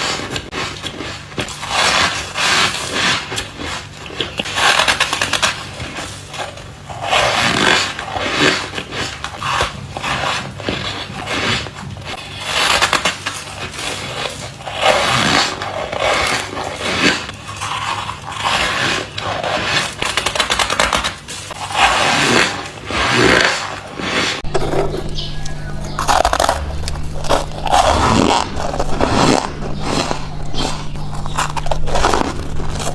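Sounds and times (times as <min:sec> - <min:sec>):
biting and chewing squeaky ice: 0:00.0 - 0:32.9.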